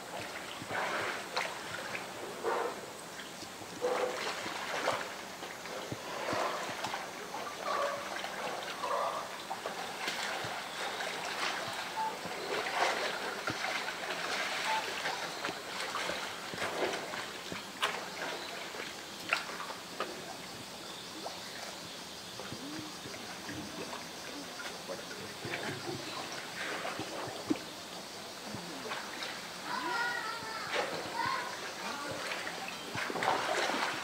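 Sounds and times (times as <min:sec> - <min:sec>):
water splashing and sloshing: 0:00.0 - 0:34.0.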